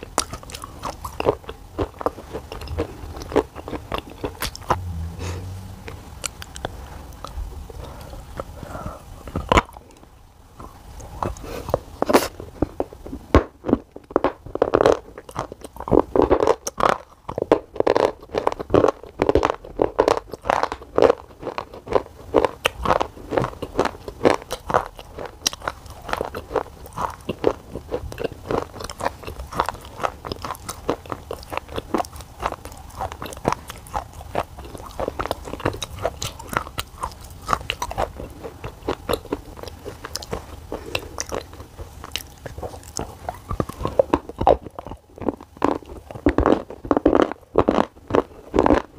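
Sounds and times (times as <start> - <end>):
crunching and chewing: 0.0 - 48.9.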